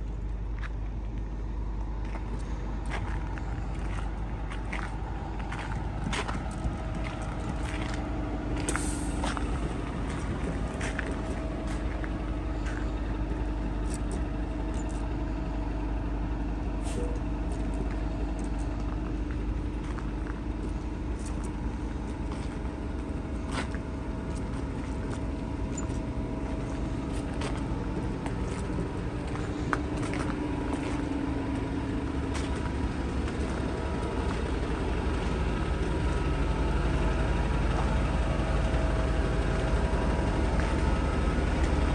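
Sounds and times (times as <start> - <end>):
large vehicle rumbling: 0.0 - 41.9.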